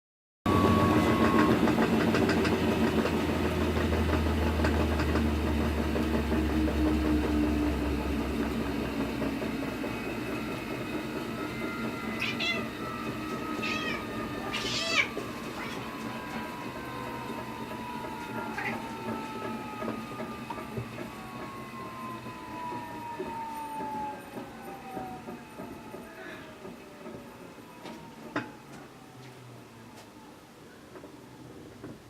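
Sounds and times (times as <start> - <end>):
washing machine drum winding down: 0.5 - 30.0.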